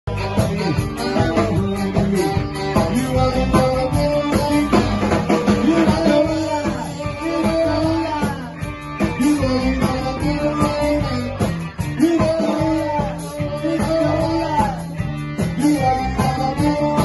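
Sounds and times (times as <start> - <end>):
drum kit: 0.1 - 17.0
electric guitar: 0.1 - 17.0
person singing: 0.1 - 17.0.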